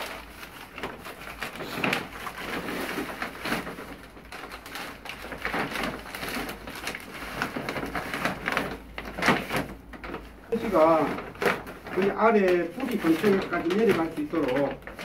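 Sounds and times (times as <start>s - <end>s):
newspaper crinkling: 0.0s - 15.0s
plastic sack rustling: 0.0s - 15.0s.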